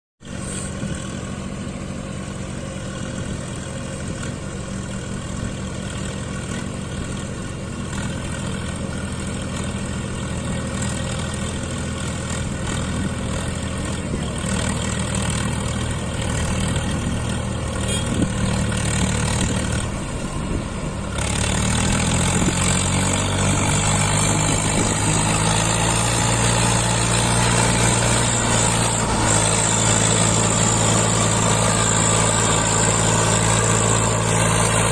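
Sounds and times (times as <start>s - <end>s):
diesel tractor engine running: 0.2s - 34.9s.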